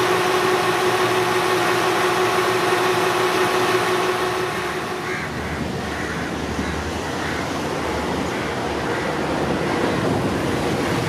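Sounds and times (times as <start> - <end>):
train mechanical hum: 0.0 - 11.0.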